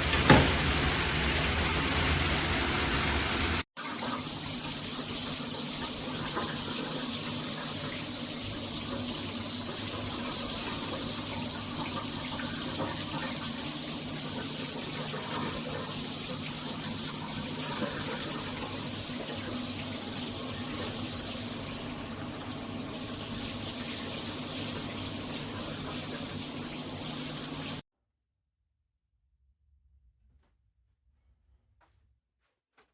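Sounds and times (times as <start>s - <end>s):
shower spraying water: 0.0s - 27.8s.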